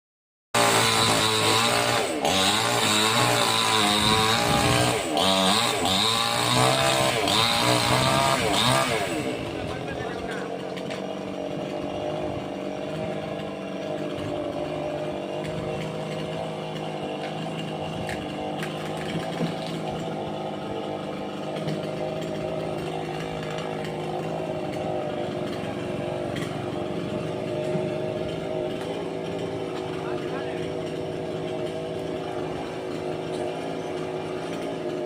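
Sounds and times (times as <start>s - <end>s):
chainsaw cutting wood: 0.6s - 35.0s.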